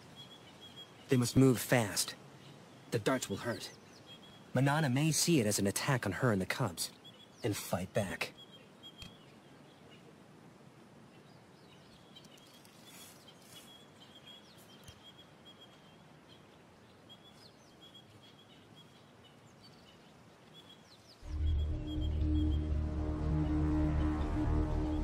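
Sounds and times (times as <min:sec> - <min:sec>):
faint ticks and rustles: 0:00.0 - 0:21.2.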